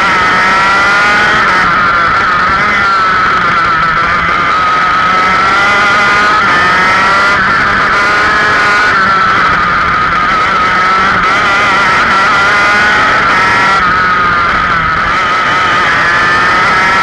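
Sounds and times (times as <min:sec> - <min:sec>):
go-kart engine at high revs: 0:00.0 - 0:17.0.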